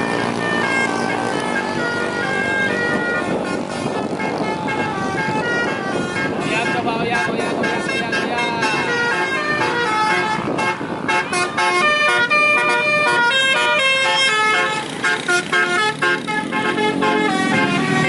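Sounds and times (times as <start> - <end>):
musical car horn tune: 0.0 - 18.0.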